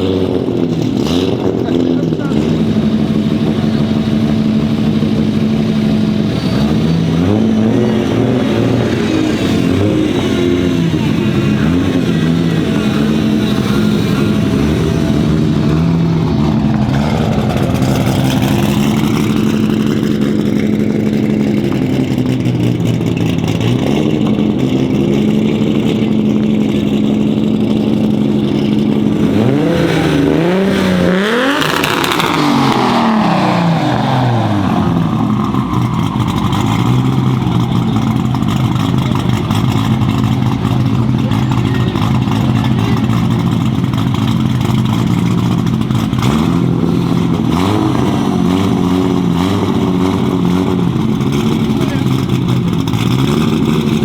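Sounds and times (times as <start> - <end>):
loud car engine idling and revving: 0.0 - 54.0.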